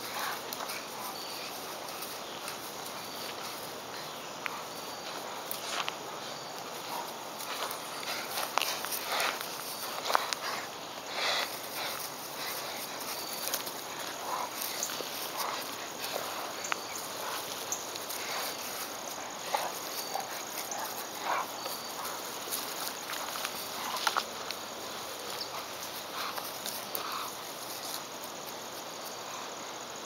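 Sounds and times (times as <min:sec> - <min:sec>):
dog paws scuffling on grass: 0:00.0 - 0:29.2
insects chirping: 0:00.0 - 0:30.0
quiet dog noises: 0:00.0 - 0:30.0.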